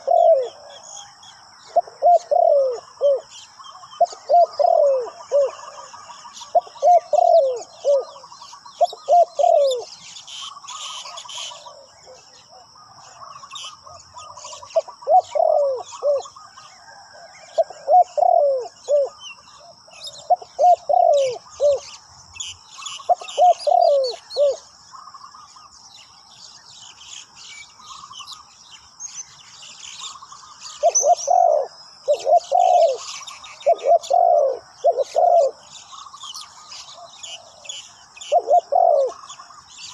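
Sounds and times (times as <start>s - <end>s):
dove cooing: 0.0s - 22.0s, 22.9s - 24.7s, 30.6s - 39.9s
small birds chirping: 0.0s - 39.9s.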